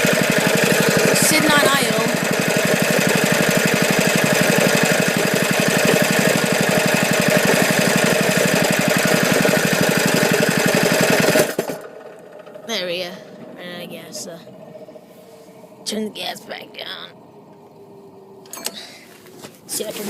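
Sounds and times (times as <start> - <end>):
small engine idling: 0.0 - 16.9.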